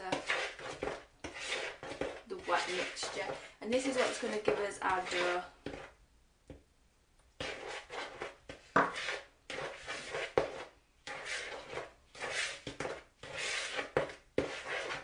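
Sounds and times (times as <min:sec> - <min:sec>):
gritty scraping of dough: 0:00.0 - 0:06.0, 0:07.4 - 0:15.0.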